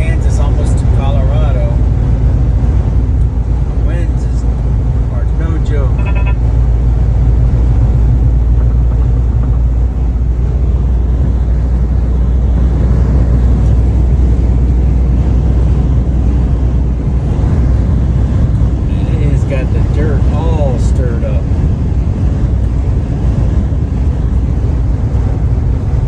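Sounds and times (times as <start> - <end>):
vehicle low rumble: 0.0 - 26.0.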